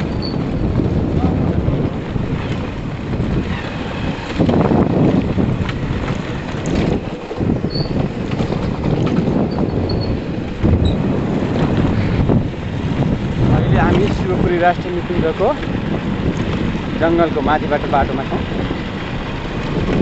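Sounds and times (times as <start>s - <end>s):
motorcycle on gravel road: 0.0s - 20.0s
wind buffeting microphone: 0.0s - 20.0s.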